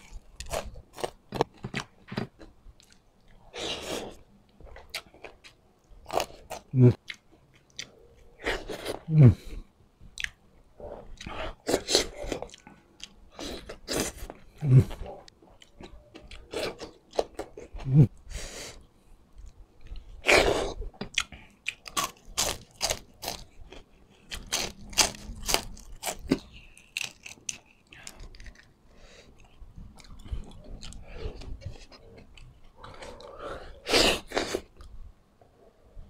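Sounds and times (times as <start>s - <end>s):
person chewing and crunching food: 0.0s - 10.4s, 11.0s - 35.0s.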